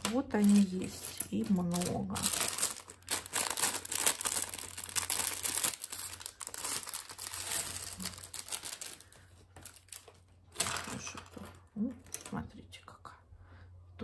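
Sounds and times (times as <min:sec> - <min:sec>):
plastic bag crinkling: 0:00.0 - 0:12.3
plastic pieces rattling: 0:00.0 - 0:12.3.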